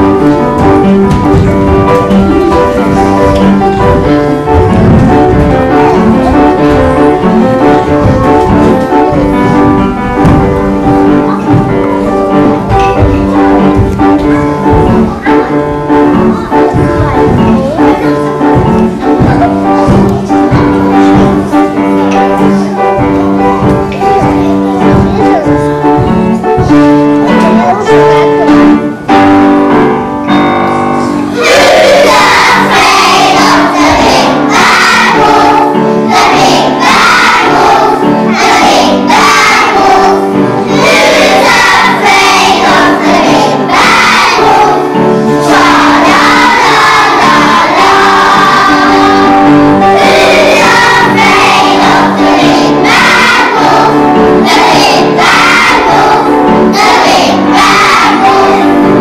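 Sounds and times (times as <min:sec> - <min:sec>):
children's choir singing: 0:00.0 - 0:59.0
piano accompaniment: 0:00.0 - 0:59.0.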